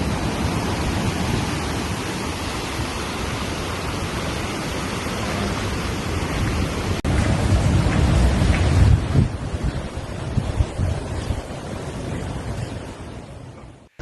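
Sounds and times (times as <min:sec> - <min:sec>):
hurricane storm rush: 0:00.0 - 0:14.0.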